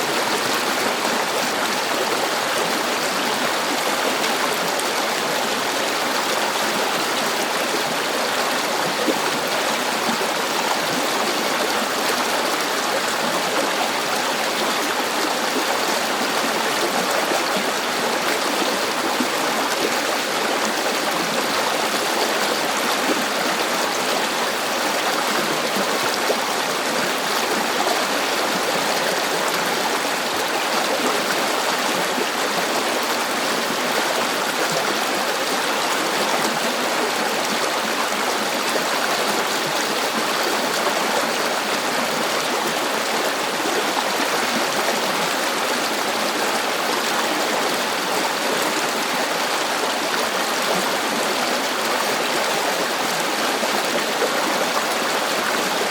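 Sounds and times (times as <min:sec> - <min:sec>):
river water over rocks: 0:00.0 - 0:55.9.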